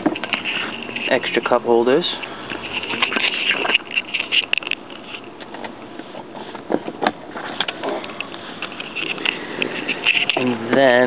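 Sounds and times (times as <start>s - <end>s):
rustling and scraping plastic: 0.0s - 11.0s.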